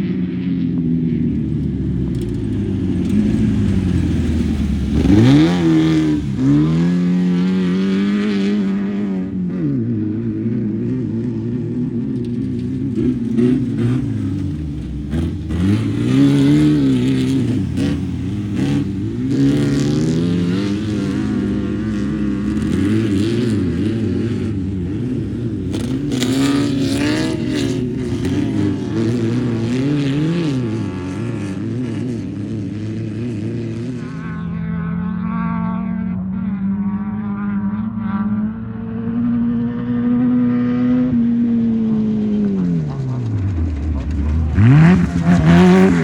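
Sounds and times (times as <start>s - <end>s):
race vehicle engines revving: 0.0s - 46.0s.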